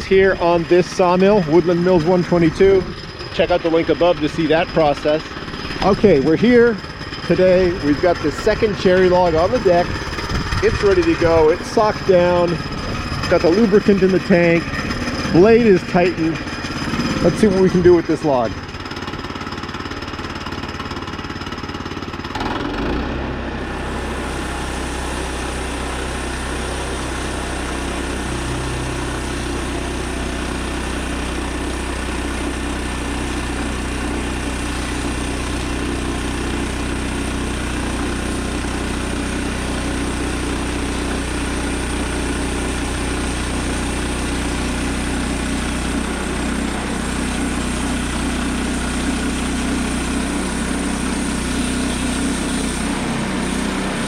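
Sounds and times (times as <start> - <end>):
bandsaw mill engine running: 0.0 - 54.0
saw blade cutting log: 0.2 - 23.1, 23.7 - 54.0.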